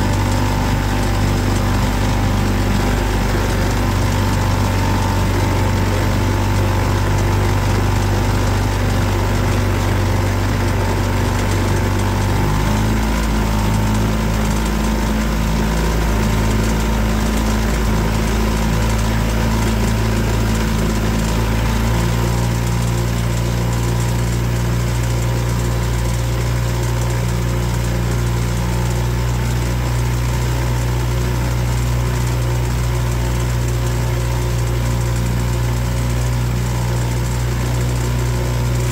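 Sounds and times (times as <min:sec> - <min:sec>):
boat motor running: 0:00.0 - 0:38.9.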